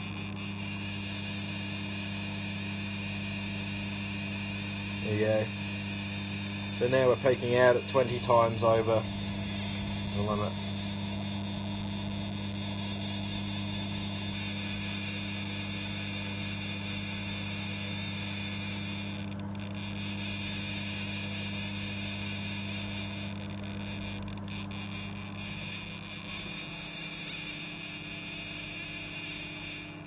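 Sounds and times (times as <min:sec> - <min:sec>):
microwave oven hum: 0:00.0 - 0:30.0.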